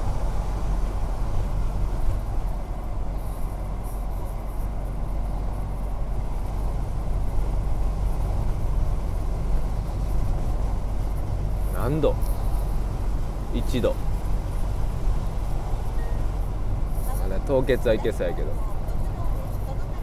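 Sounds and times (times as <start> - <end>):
car cabin road and engine rumble: 0.0 - 20.0
tyres on wet slushy road: 0.0 - 20.0.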